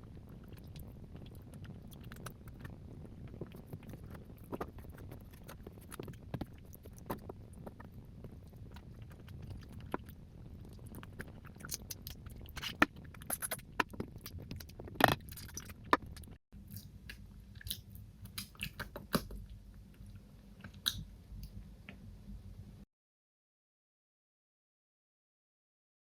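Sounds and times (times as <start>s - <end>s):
chewing and wet mouth sounds: 0.0s - 21.6s.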